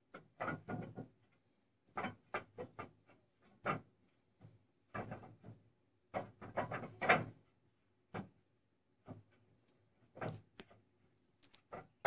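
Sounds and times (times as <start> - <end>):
clay roof tiles clattering: 0.0 - 12.0.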